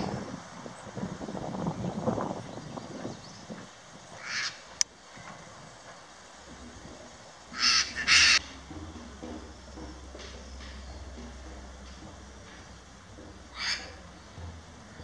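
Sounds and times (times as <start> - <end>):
bird harsh raspy calls: 2.3 - 15.0.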